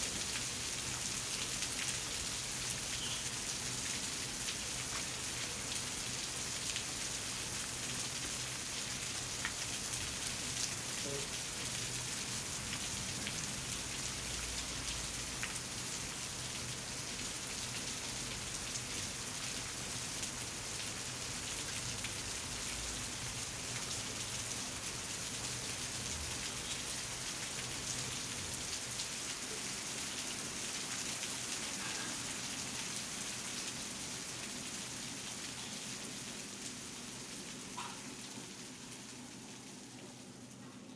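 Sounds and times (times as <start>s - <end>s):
rain-like hiss with patters: 0.0s - 40.9s.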